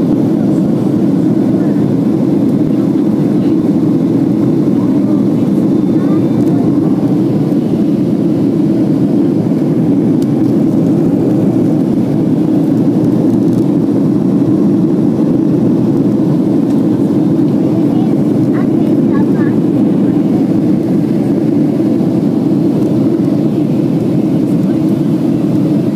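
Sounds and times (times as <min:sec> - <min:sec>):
airliner engines rumbling: 0:00.0 - 0:25.9
rushing air: 0:00.0 - 0:25.9.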